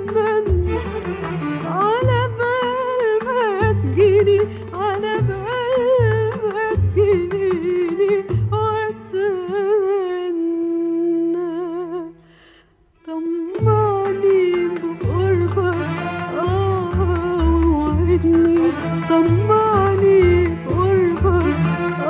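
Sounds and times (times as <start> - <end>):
woman singing ornamented lines: 1.7 - 12.2, 13.0 - 22.0.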